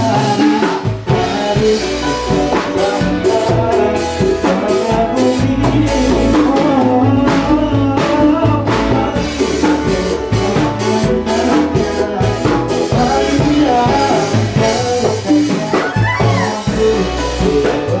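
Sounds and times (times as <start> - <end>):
band playing a song: 0.0 - 18.0
drum kit beat: 0.0 - 18.0
person singing: 0.0 - 18.0.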